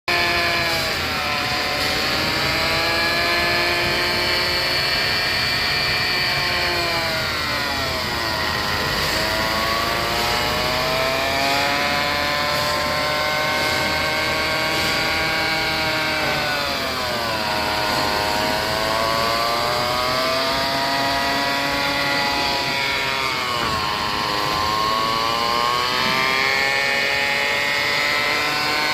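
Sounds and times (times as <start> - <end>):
car transmission whining: 0.2 - 28.9.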